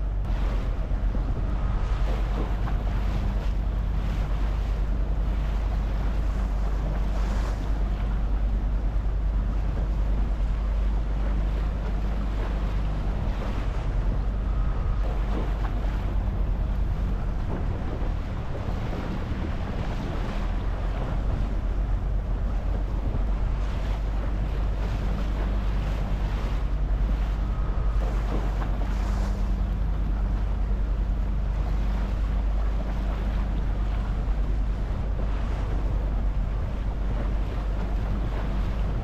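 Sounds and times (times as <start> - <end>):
boat engine humming: 0.0 - 39.0
sea water washing against hull: 0.0 - 39.0
wind gusting on microphone: 0.0 - 39.0.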